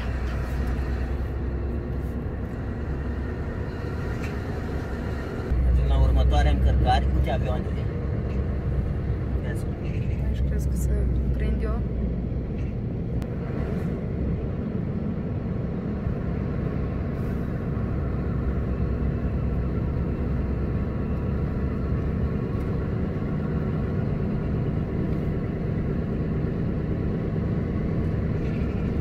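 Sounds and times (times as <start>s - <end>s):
lorry engine rumbling: 0.0s - 29.0s.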